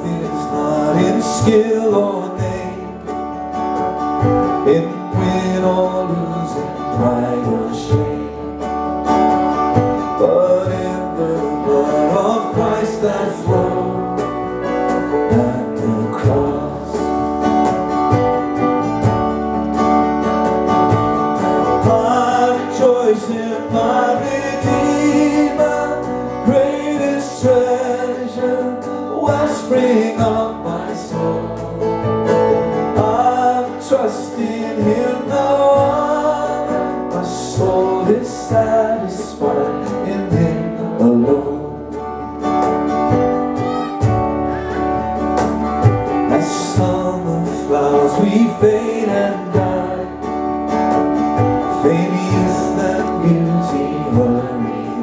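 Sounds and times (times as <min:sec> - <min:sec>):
man singing: 0:00.0 - 0:17.7, 0:21.5 - 0:42.2, 0:45.9 - 0:55.0
acoustic guitar strumming: 0:00.0 - 0:55.0.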